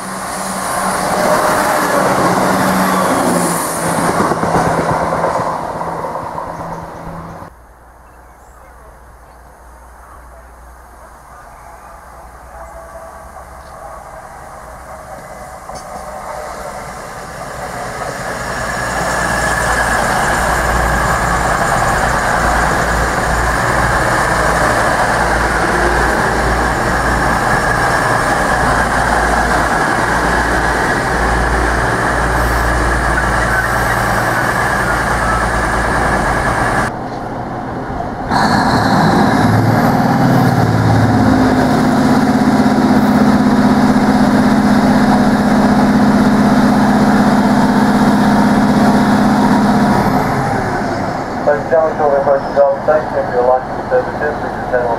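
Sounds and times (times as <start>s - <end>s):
diesel engine revving: 0.0s - 7.5s, 14.0s - 36.9s, 38.1s - 54.9s
train rushing past: 0.0s - 8.0s, 8.9s - 54.9s.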